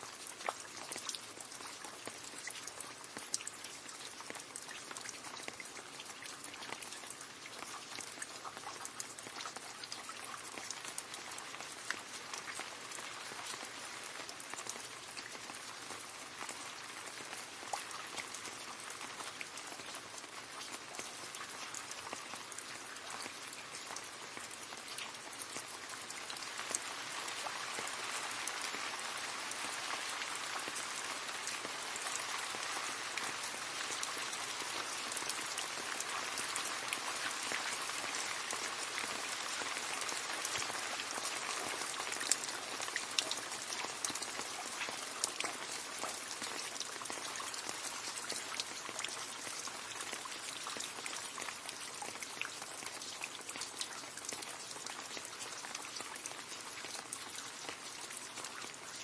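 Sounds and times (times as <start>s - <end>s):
rain falling into puddle: 0.0s - 59.0s.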